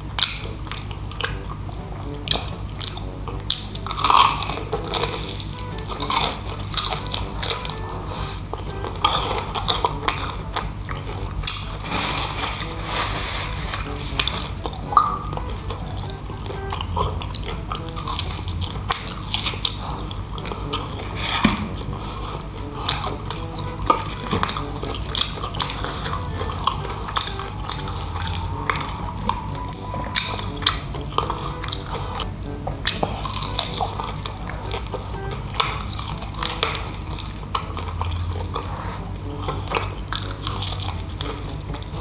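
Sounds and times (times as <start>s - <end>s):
chewing crispy fried chicken: 0.0s - 42.0s
soft background music: 0.0s - 42.0s.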